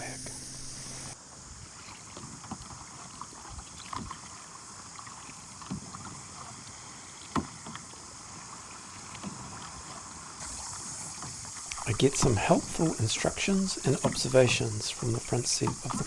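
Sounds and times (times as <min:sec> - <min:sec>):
paddle blades splashing: 0:00.0 - 0:16.0.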